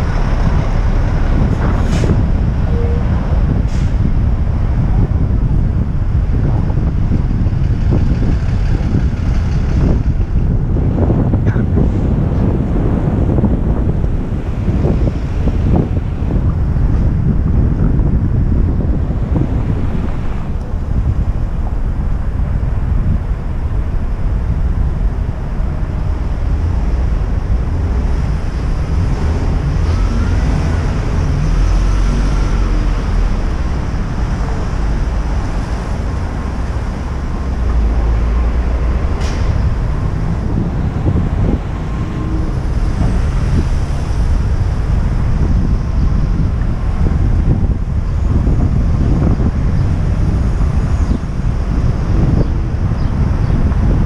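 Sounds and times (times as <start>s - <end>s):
street traffic rumble: 0.0s - 54.0s
wind buffeting microphone: 0.0s - 54.0s.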